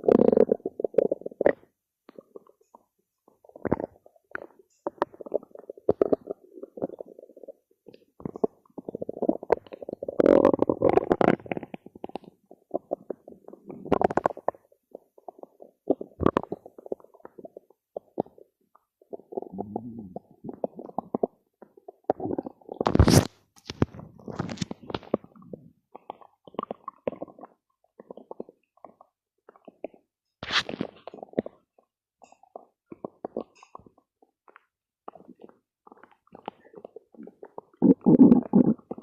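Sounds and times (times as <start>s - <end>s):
stomach growling: 0.0s - 39.0s.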